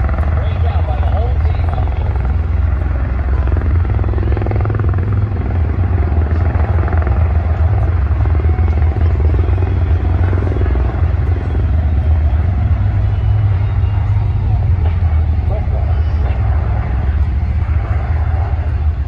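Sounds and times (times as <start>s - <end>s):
helicopter rotor chopping: 0.0s - 19.0s.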